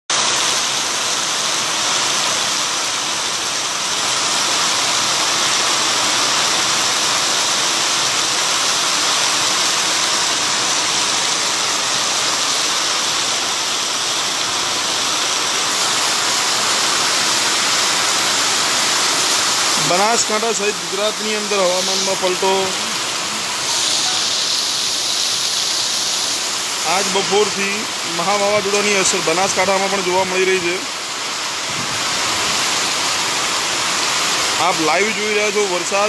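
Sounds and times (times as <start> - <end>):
heavy rain on flooded road: 0.1 - 36.0.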